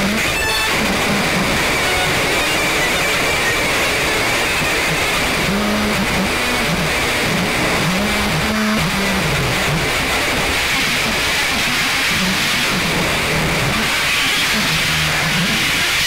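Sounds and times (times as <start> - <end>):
loud static hiss: 0.0 - 16.0.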